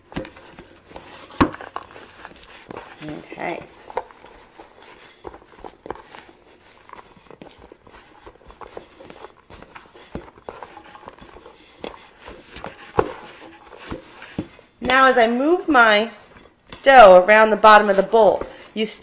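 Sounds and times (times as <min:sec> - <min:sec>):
hands kneading dough: 0:00.0 - 0:19.0.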